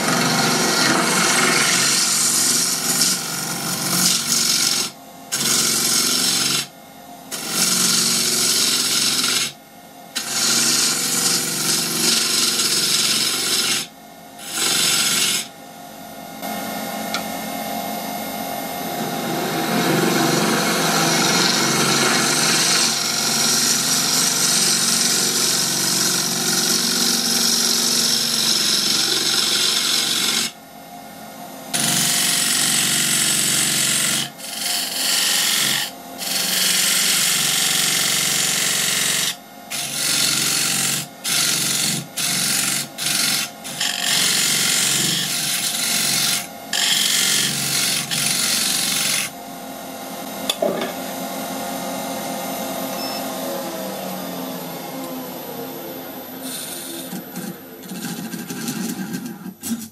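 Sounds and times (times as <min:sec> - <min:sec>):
lathe running: 0:00.0 - 0:06.7, 0:07.3 - 0:09.5, 0:10.2 - 0:15.6, 0:16.7 - 0:30.5, 0:31.7 - 0:59.5
lathe tool cutting wood: 0:00.0 - 0:06.7, 0:07.3 - 0:09.6, 0:10.2 - 0:15.6, 0:18.3 - 0:30.6, 0:31.7 - 0:59.9.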